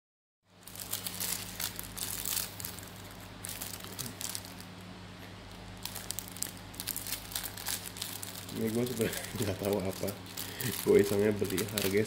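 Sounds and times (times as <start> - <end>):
low steady hum: 0.5 - 12.0
plastic packaging crinkling: 0.6 - 12.0.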